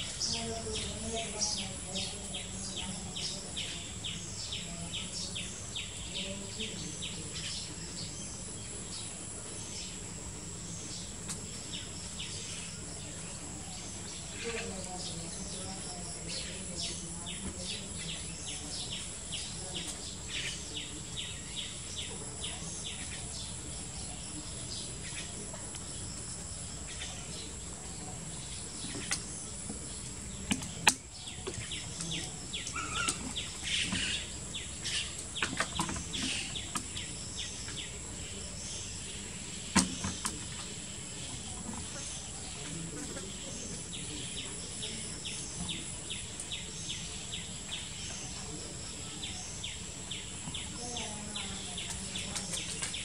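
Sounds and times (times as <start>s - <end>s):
insect chirps: 0.0s - 53.0s.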